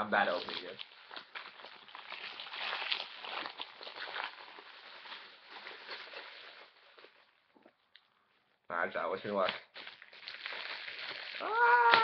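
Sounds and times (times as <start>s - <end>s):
wrapping paper rustling and crinkling: 0.0s - 7.6s, 9.2s - 12.0s.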